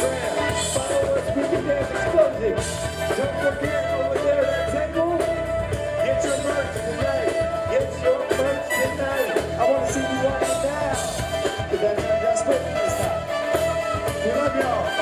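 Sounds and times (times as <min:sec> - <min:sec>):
live band playing dance music: 0:00.0 - 0:15.0
person singing: 0:00.0 - 0:15.0.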